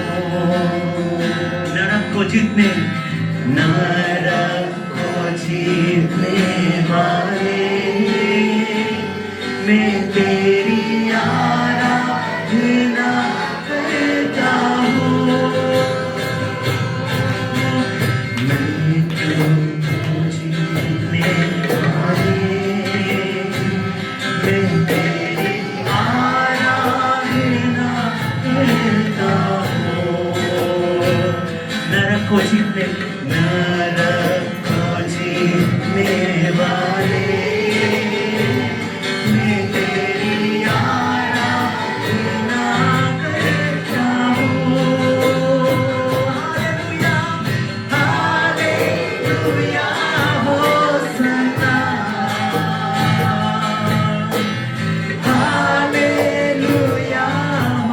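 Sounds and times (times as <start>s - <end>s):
person singing: 0.0s - 57.9s
worship band playing: 0.0s - 57.9s
steady drum beat: 2.6s - 57.9s.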